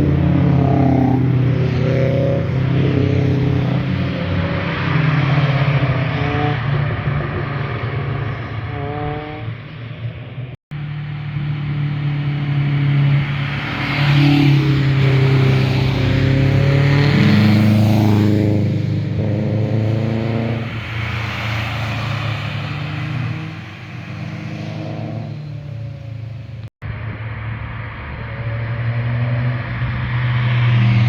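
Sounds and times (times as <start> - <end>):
cars accelerating and passing by: 0.0 - 31.0.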